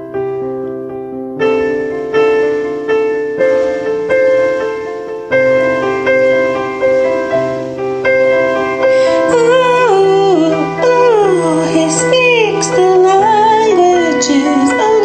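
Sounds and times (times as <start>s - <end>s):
piano chords backing track: 0.0s - 15.0s.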